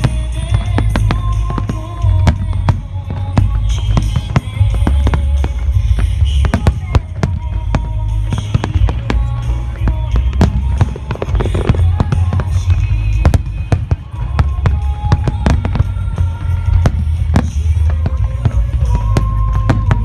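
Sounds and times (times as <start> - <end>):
fireworks booming and crackling: 0.0 - 20.0
music: 0.0 - 20.0.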